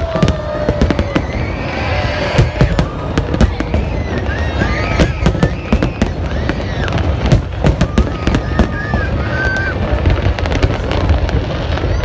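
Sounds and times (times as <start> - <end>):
distant firework bursts rumbling: 0.0 - 12.0
firework bangs and crackles: 0.0 - 12.0.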